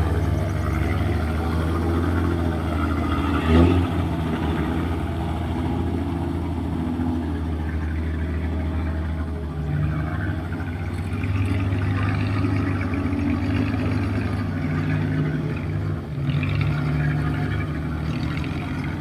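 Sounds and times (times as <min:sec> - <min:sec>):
heavy diesel machinery engine: 0:00.0 - 0:19.0.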